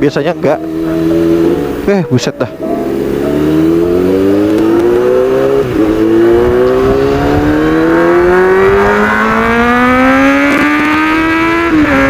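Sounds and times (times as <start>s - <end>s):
motorcycle engine accelerating hard: 0.0s - 12.0s.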